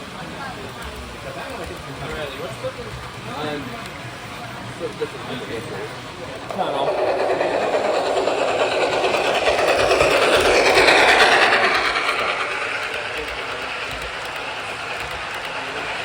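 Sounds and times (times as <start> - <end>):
model train running on track: 0.0 - 16.0.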